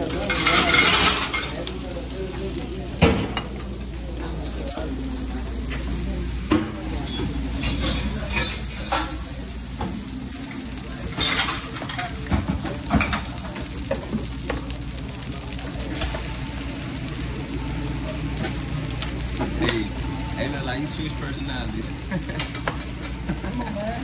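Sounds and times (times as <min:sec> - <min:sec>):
pans and utensils clinking: 0:00.0 - 0:16.8, 0:18.0 - 0:24.0
eggs and bacon sizzling: 0:00.0 - 0:24.0.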